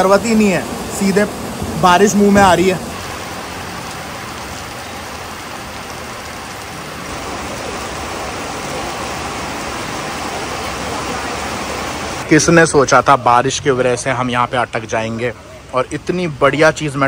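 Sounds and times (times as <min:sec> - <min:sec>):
rain: 0:00.0 - 0:17.0
road traffic on wet street: 0:00.0 - 0:17.0.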